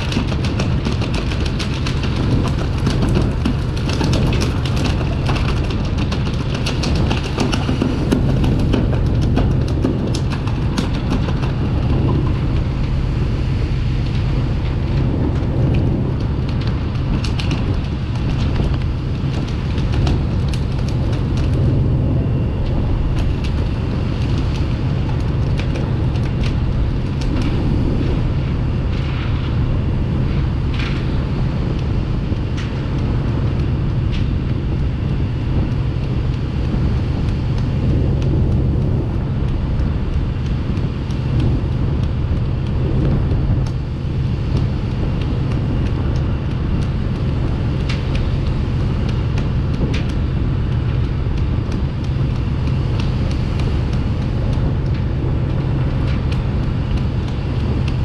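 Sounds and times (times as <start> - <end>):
boat engine drone: 0.0 - 58.0
water rushing along hull: 0.0 - 58.0
wind: 0.0 - 58.0.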